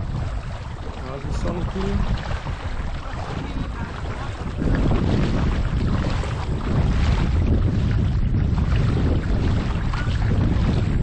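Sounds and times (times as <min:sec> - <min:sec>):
rush of moving boat on water: 0:00.0 - 0:11.0
wind buffeting microphone: 0:00.0 - 0:11.0.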